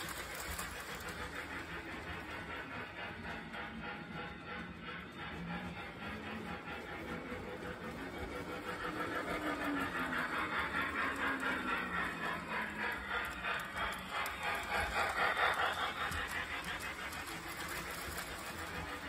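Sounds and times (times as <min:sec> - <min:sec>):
model train clattering on track: 0:00.0 - 0:19.0.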